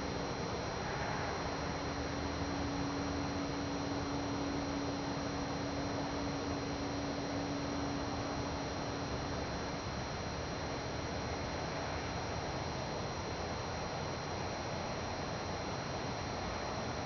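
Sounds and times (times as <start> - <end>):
constant hiss: 0.0 - 17.0.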